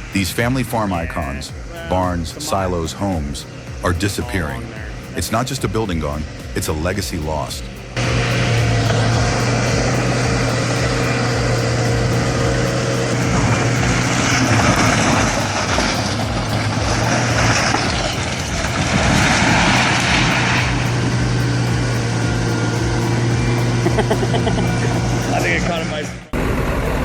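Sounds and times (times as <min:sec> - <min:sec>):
rushing noise: 0:00.0 - 0:27.0
vehicle engine droning: 0:00.0 - 0:27.0.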